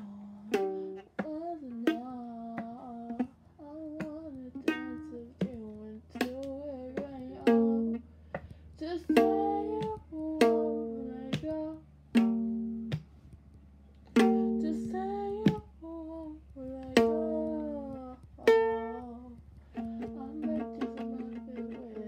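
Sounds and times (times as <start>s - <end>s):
strummed acoustic chords: 0.0s - 22.0s.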